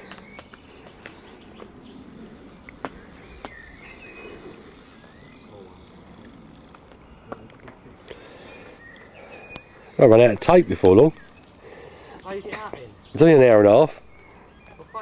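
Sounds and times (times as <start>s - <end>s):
bird chirps: 0.0s - 6.0s, 8.1s - 15.0s.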